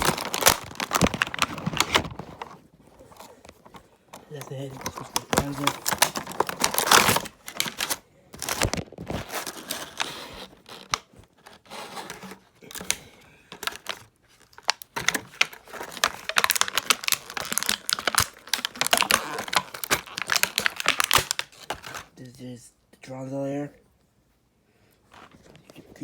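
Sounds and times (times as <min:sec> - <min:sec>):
plastic packaging crinkling and tearing: 0:00.0 - 0:22.2.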